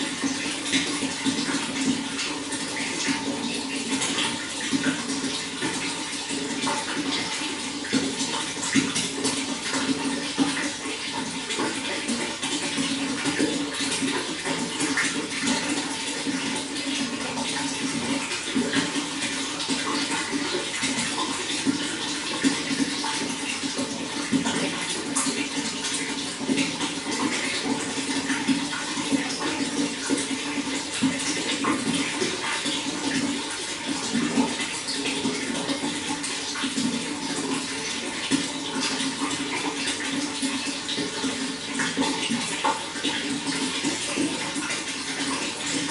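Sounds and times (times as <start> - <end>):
running water splashing: 0.0 - 45.9.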